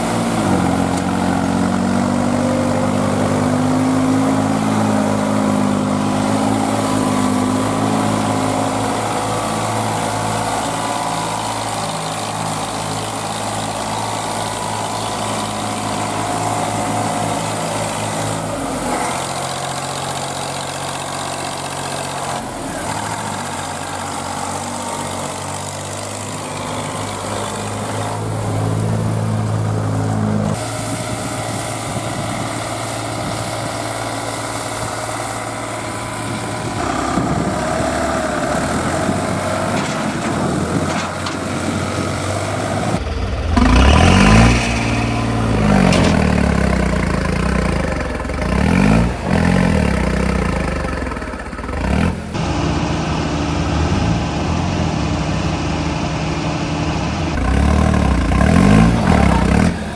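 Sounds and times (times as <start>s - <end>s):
diesel tractor engine revving: 0.0s - 59.9s.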